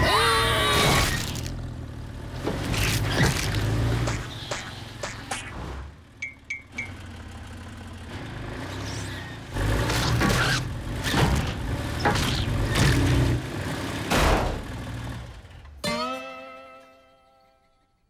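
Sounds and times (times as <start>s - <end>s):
cartoon car engine revving: 0.0s - 15.3s.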